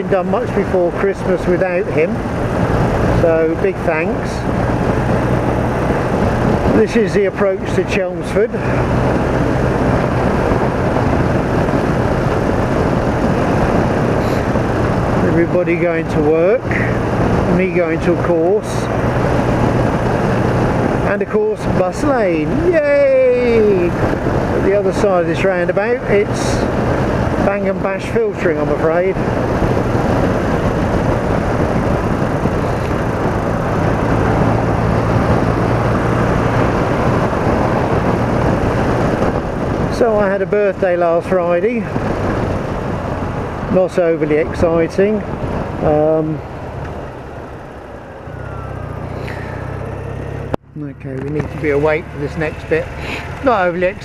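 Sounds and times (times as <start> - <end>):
motorcycle engine running: 0.0 - 40.4, 41.3 - 54.0
wind rush on microphone: 0.0 - 54.0.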